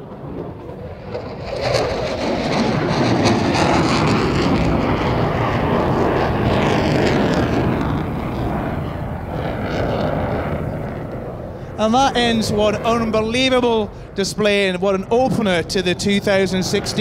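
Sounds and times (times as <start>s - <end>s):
fighter jet roaring: 0.0s - 17.0s.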